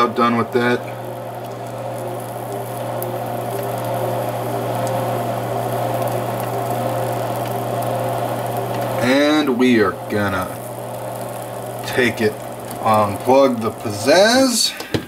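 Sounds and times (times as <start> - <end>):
appliance hum: 0.0 - 15.0
food sizzling: 0.0 - 15.0.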